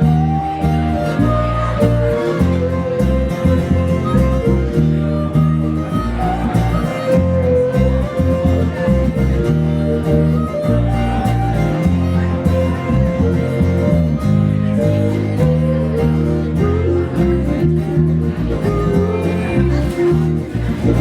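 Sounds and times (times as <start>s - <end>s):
blues guitar: 0.0s - 21.0s
low bass notes: 0.0s - 21.0s.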